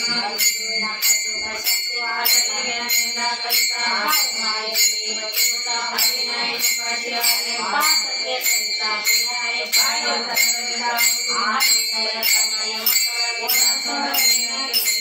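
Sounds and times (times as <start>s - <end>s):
devotional singing: 0.0s - 15.0s
small hand cymbals ringing: 0.0s - 15.0s.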